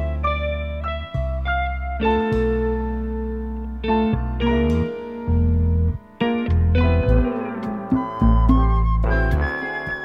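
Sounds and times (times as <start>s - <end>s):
picked guitar notes: 0.0s - 10.0s
steady bass line: 0.0s - 10.0s.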